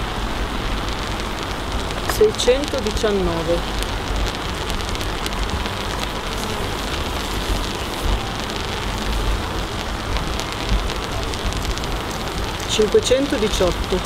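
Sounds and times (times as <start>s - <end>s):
low rumble: 0.0s - 14.0s
power line crackling hiss: 0.0s - 14.0s.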